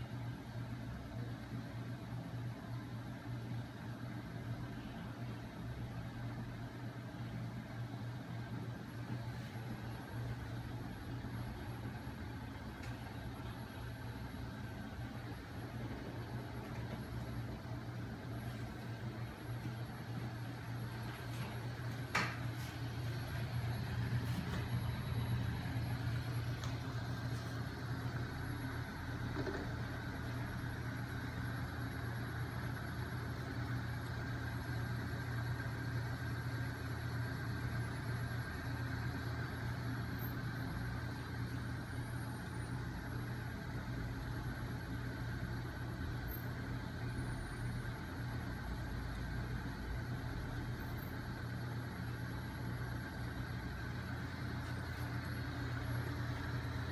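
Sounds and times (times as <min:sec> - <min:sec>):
motor-driven flywheel humming: 0:07.4 - 0:56.9.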